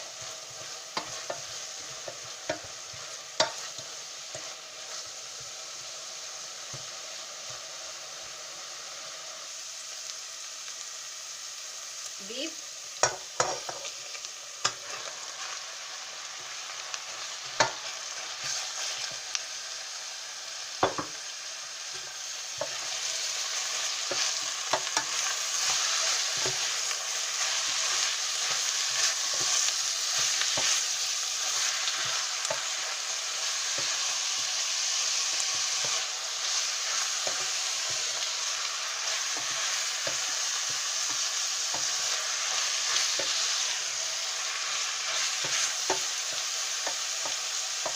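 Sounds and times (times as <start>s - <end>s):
meat sizzling in a pan: 0.0s - 47.9s.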